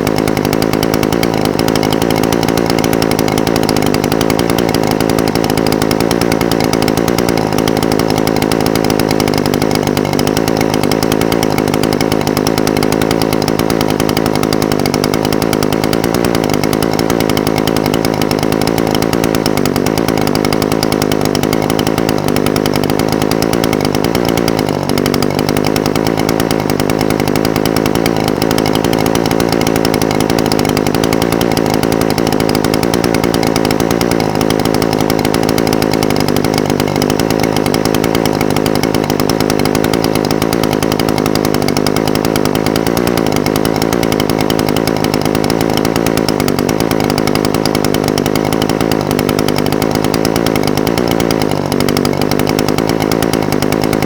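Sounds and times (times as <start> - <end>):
brush cutter engine idling: 0.0 - 54.0.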